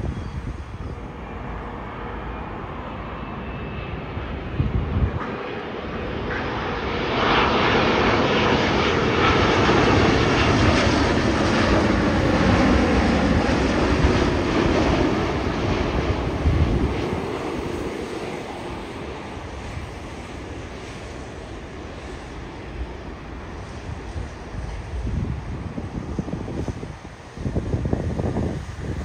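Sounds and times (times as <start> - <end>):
wind rumbling on microphone: 0.0 - 2.8, 3.6 - 29.0
jet airliner passing overhead: 0.0 - 29.0.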